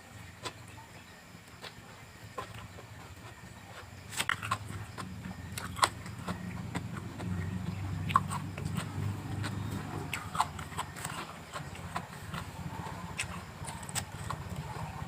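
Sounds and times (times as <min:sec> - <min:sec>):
biting and chewing raw vegetables: 0:00.0 - 0:15.0
low uneven rumble: 0:00.0 - 0:15.0.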